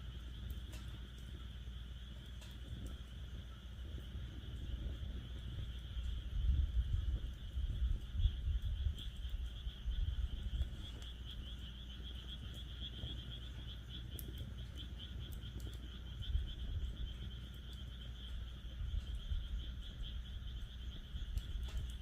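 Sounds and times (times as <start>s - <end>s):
campfire crackling: 0.0s - 22.0s
frogs trilling: 0.0s - 22.0s.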